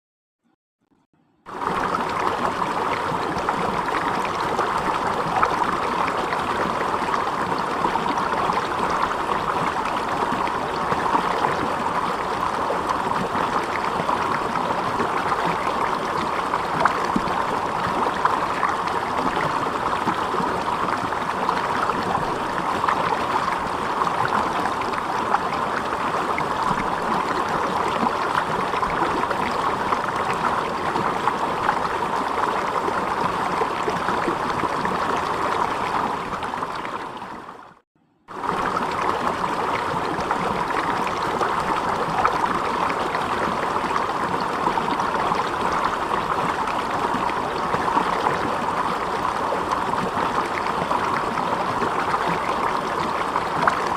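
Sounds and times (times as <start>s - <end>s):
water flowing and rushing: 1.5s - 53.9s.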